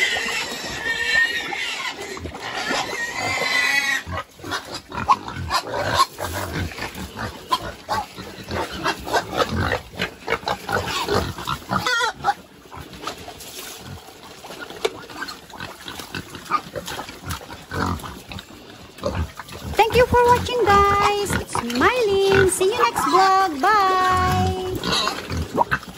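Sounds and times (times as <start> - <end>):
pig squealing: 0.0 - 13.2, 15.0 - 25.9
pigs chomping: 0.0 - 25.9
pigs grunting: 0.0 - 25.9.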